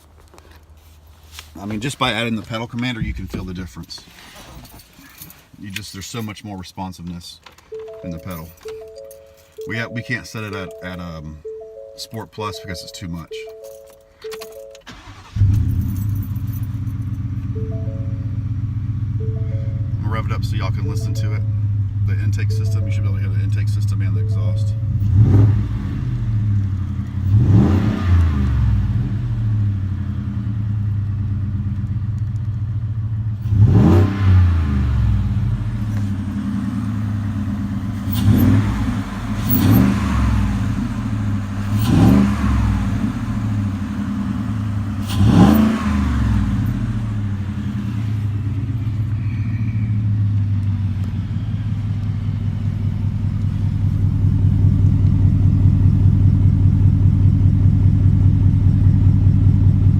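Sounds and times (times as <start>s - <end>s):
truck engine idling and revving: 7.6s - 59.9s.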